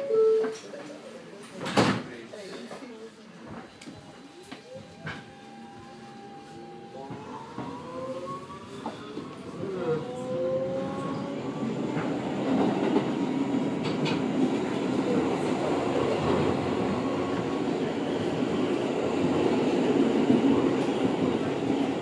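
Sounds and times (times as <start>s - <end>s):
subway wheels on rails: 0.0s - 22.0s.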